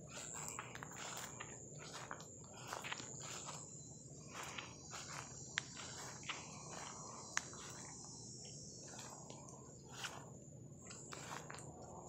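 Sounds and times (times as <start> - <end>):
brush rustling: 0.0 - 12.0
crickets chirring: 0.0 - 12.0.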